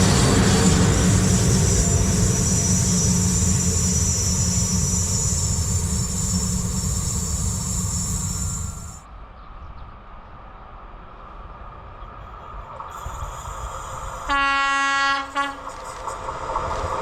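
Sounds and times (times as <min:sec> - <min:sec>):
wheels squealing on rails: 0:00.0 - 0:09.1, 0:12.1 - 0:17.0
train rumbling past: 0:00.0 - 0:17.0.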